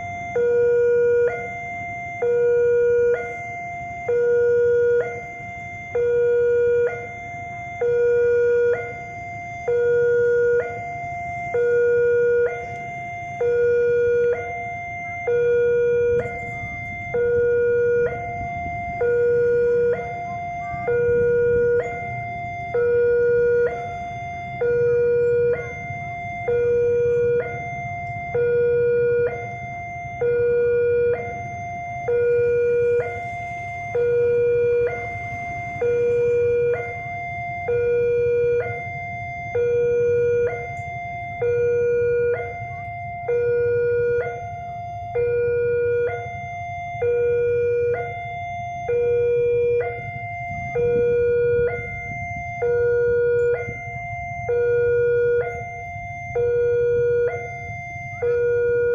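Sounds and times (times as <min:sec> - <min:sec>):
level crossing two-tone alarm: 0:00.0 - 0:58.9
steady low rumble: 0:00.0 - 0:58.9.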